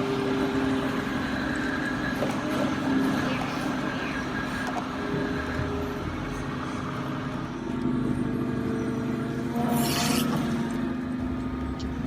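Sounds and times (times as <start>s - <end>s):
model excavator motor humming: 0.0s - 12.0s.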